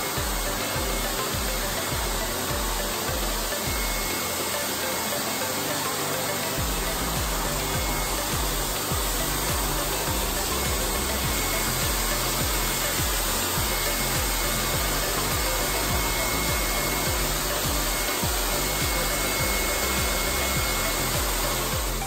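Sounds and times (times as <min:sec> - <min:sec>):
air blower rushing hiss: 0:00.0 - 0:22.0
background music with bass: 0:00.0 - 0:22.0.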